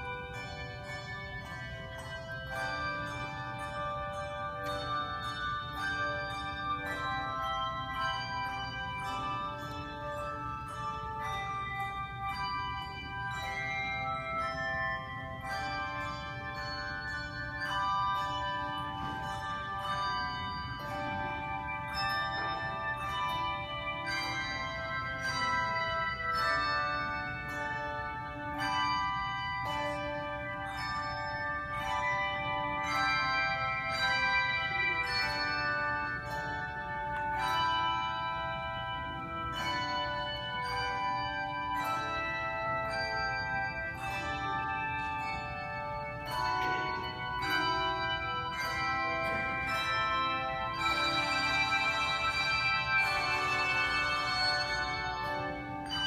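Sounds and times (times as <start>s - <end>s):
handbells ringing: 0.0s - 56.0s.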